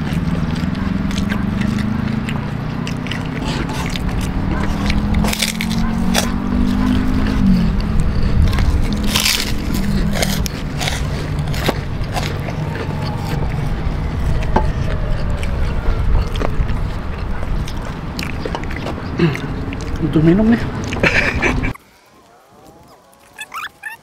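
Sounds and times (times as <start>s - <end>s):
low humming drone: 0.0s - 21.8s
crunching crackers and fried chicken: 0.0s - 24.0s.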